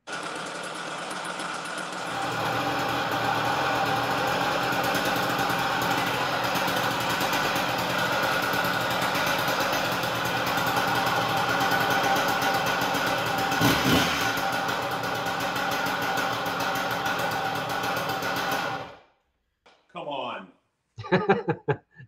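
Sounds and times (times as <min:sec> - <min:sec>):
cut-off saw engine running: 0:00.0 - 0:19.0.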